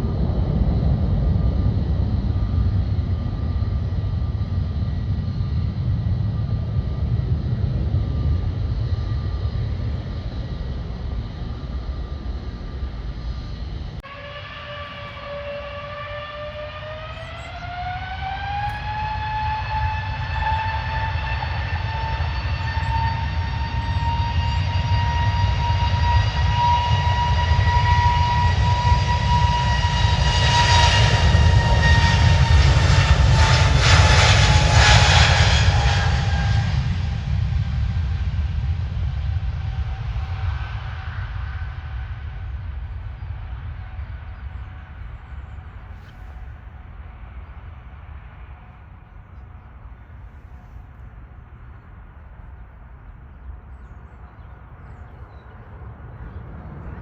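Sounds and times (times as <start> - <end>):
jet engine low rumble: 0.0 - 57.0
jet engine whine rising: 0.0 - 57.0.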